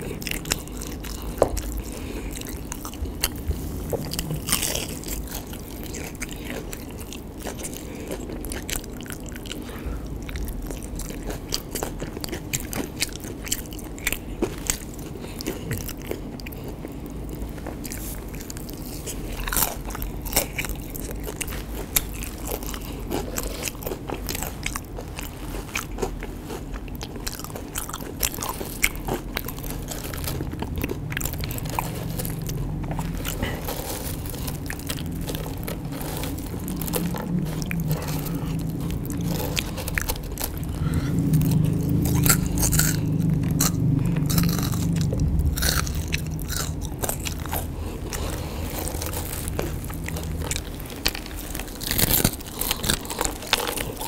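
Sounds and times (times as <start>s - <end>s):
crunching and chewing fritters: 0.0s - 54.0s.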